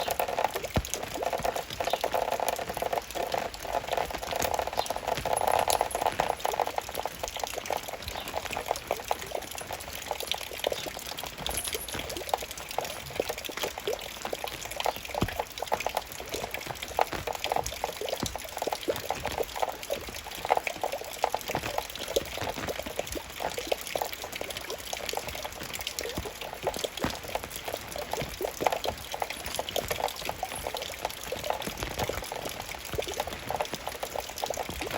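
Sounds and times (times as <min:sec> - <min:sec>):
raindrops splashing: 0:00.0 - 0:34.9
water pouring: 0:00.0 - 0:34.9.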